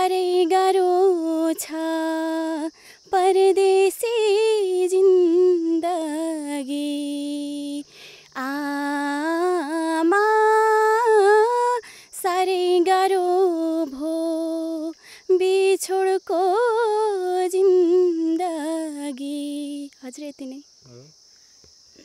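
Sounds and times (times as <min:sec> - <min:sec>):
woman singing unaccompanied: 0:00.0 - 0:20.6
high insect buzz: 0:00.0 - 0:22.0.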